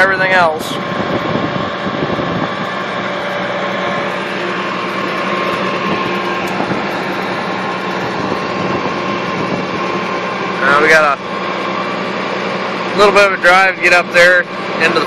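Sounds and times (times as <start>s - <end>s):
tractor engine drone: 0.0s - 15.0s.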